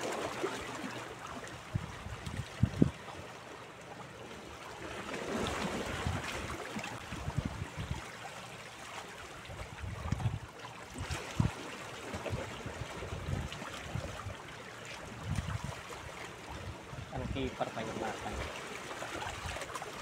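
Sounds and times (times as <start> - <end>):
waves lapping against rocks: 0.0 - 20.0.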